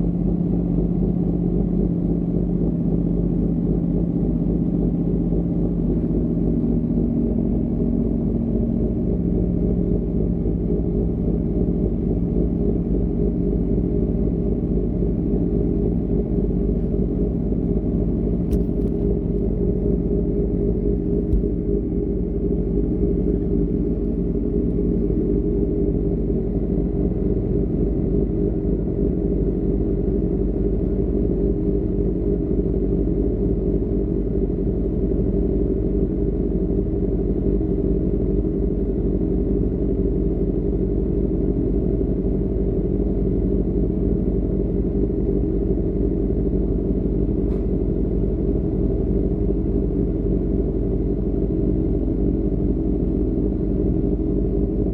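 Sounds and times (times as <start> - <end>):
motorcycle engine and exhaust: 0.0 - 54.9.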